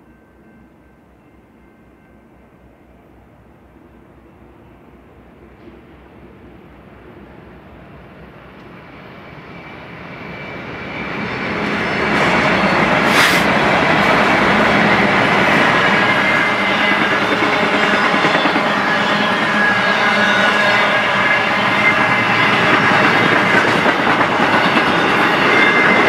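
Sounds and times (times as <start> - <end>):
diesel locomotives passing: 0.0 - 26.0.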